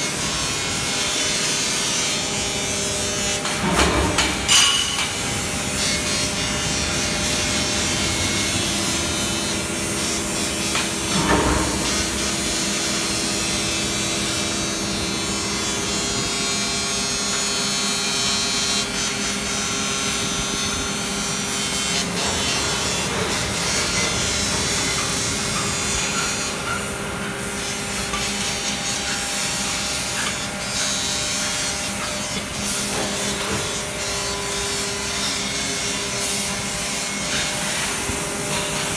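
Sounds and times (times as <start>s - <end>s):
machinery humming: 0.0s - 38.9s.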